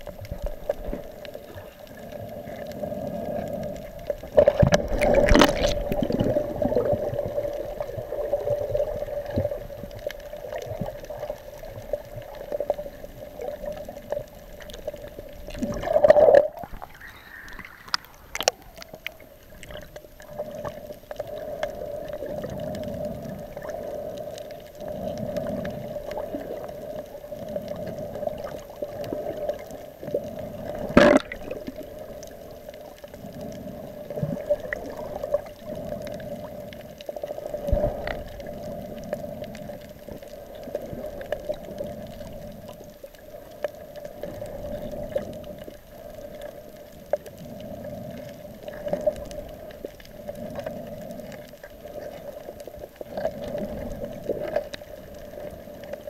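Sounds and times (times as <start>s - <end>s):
muffled underwater gurgling: 0.0s - 56.0s.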